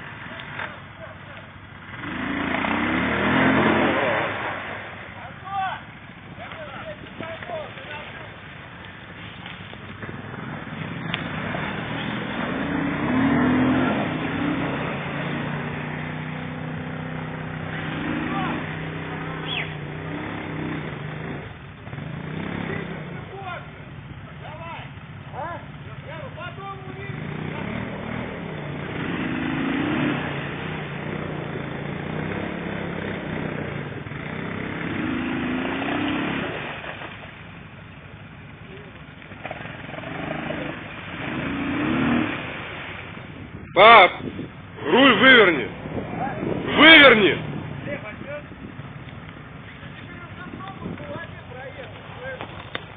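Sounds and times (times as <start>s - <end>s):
vehicle engine revving: 0.0s - 52.9s.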